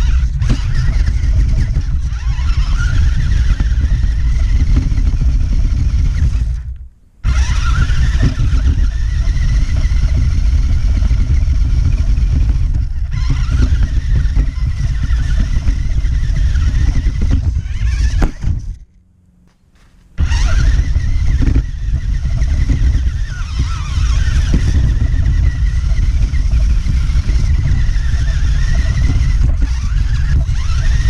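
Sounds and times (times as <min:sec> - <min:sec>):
chassis rumble and clatter: 0:00.0 - 0:31.0
electric motor whine: 0:00.0 - 0:31.0.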